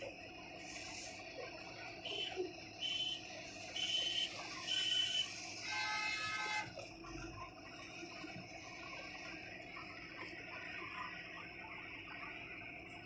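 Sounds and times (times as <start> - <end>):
road noise inside vehicle: 0.0 - 13.0.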